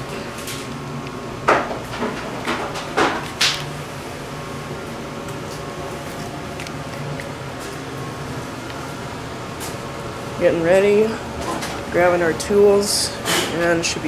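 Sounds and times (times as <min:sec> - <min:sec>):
gas furnace humming: 0:00.0 - 0:14.0.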